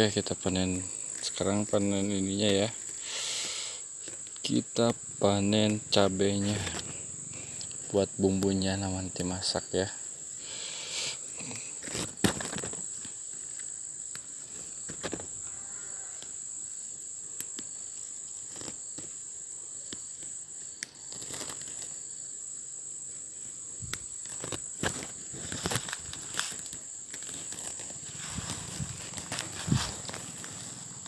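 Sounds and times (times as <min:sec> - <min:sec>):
leaves and stems rustling: 0:00.0 - 0:22.3, 0:23.1 - 0:31.0
insects buzzing: 0:00.0 - 0:31.0.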